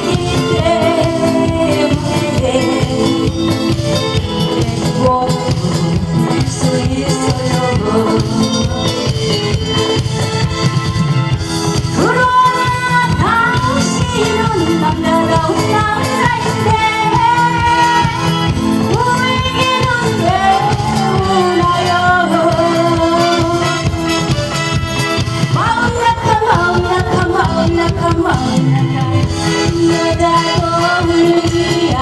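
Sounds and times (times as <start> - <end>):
pop backing music with beat: 0.0 - 32.0.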